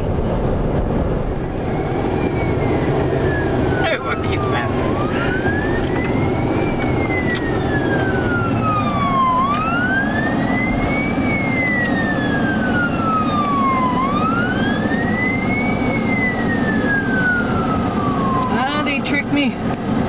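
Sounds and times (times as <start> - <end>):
road noise rumble: 0.0 - 20.0
emergency siren wailing: 0.1 - 20.0.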